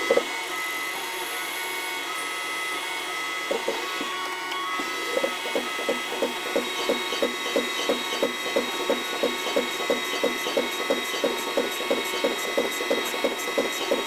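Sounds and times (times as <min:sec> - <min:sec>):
lathe machine whine: 0:00.0 - 0:14.0.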